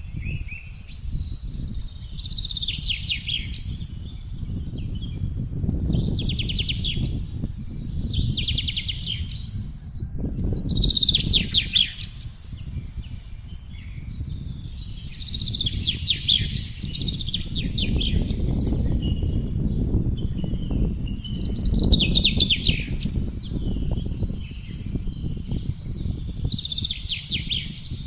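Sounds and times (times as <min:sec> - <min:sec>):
low rumble of wind: 0:00.0 - 0:28.0
songbirds trilling: 0:00.0 - 0:28.0.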